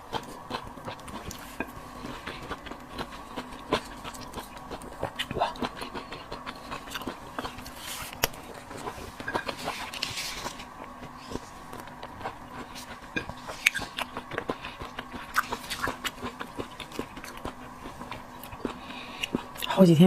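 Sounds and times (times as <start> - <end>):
chewing and crunching: 0.0 - 19.8
faint steady hum: 0.0 - 20.0.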